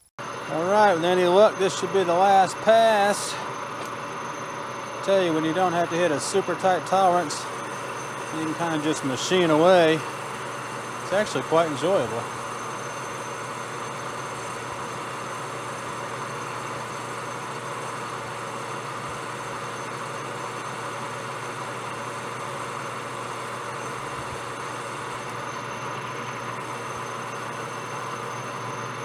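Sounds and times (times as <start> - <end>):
metal lathe running: 0.2 - 29.0.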